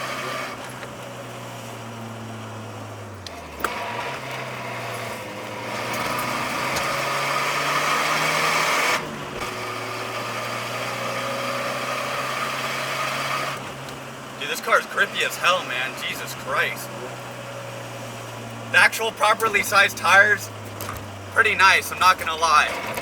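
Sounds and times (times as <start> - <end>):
car engine from inside cabin: 0.0 - 23.0.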